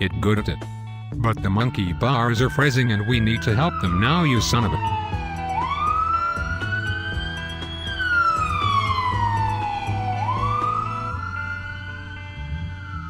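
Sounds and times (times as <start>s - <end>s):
background music: 0.0s - 13.0s
siren wailing: 1.5s - 13.0s.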